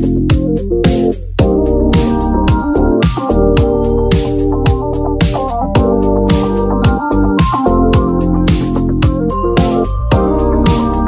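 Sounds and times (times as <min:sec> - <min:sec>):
hi-hat strikes: 0:00.0 - 0:11.0
low kick drum: 0:00.0 - 0:11.0
synth chords: 0:00.0 - 0:11.0.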